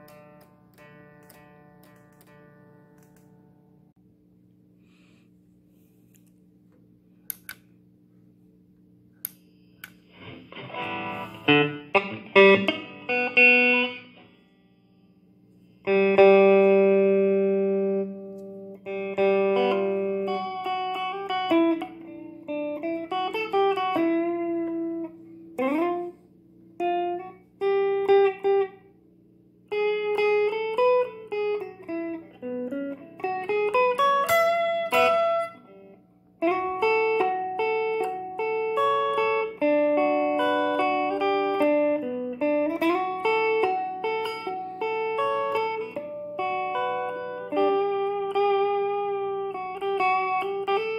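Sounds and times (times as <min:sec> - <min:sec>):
electric guitar playing: 0:00.0 - 0:03.9, 0:09.6 - 0:50.9
amp hum: 0:00.0 - 0:50.9.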